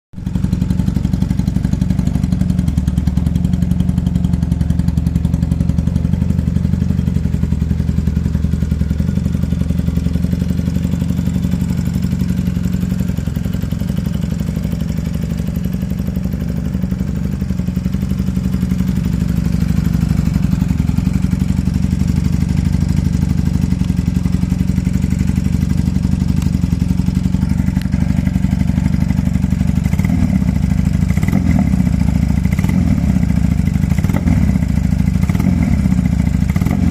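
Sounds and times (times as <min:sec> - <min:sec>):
motorcycle engine running: 0:00.2 - 0:36.9.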